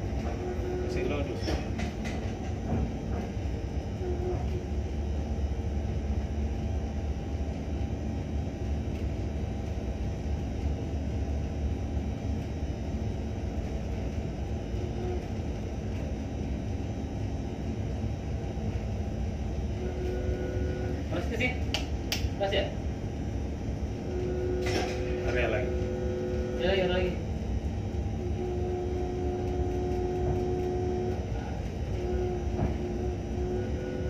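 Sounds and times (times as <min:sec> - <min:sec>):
ship engines rumbling: 0:00.0 - 0:34.0
faint steady hum: 0:03.4 - 0:34.0.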